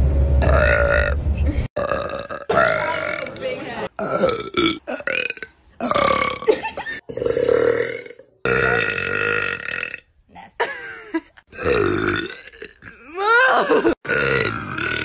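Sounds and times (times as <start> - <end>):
person burping: 0.4 - 1.2, 1.8 - 10.1, 11.5 - 15.0.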